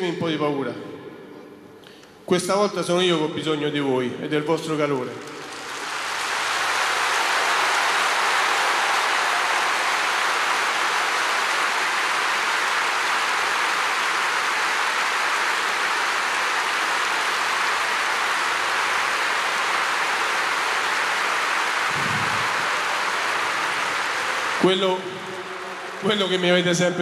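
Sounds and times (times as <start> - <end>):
stadium crowd applauding: 4.9 - 27.0.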